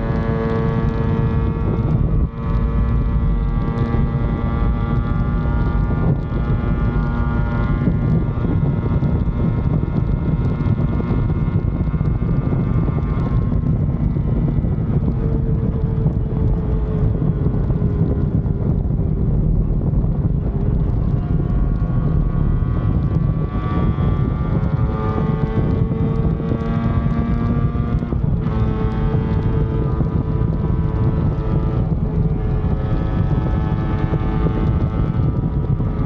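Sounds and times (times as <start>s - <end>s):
wind noise on microphone: 0.0s - 36.0s.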